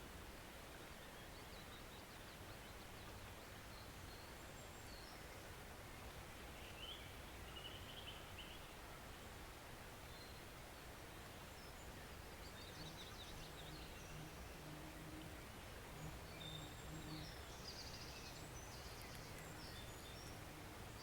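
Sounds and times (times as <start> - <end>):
songbirds chirping: 0.0 - 21.0
woodland stream rushing: 0.0 - 21.0.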